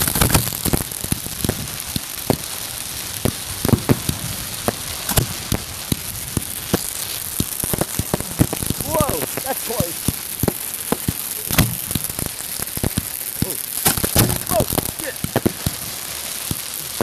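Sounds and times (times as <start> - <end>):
fireworks crackling: 0.0 - 17.0
fireworks pops and bangs: 0.0 - 17.0.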